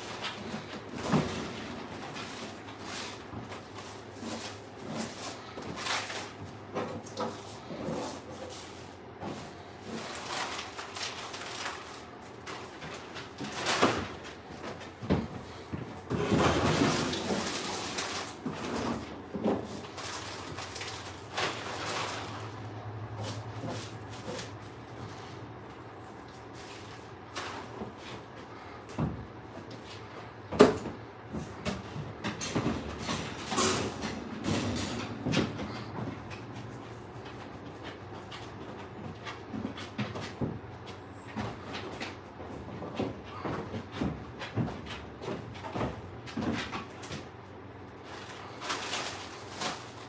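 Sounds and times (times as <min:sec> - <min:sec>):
knocks and clatter of handling things: 0:00.0 - 0:50.0.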